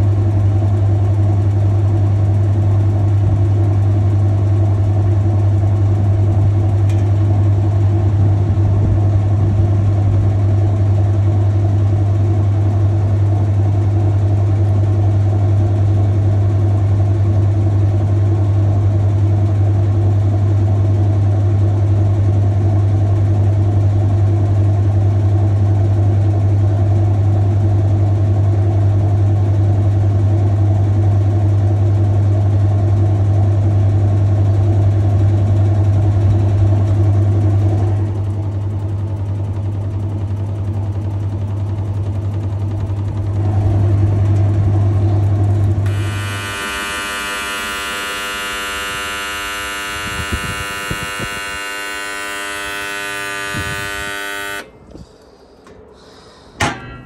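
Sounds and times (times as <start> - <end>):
washing machine spinning: 0.0 - 54.6.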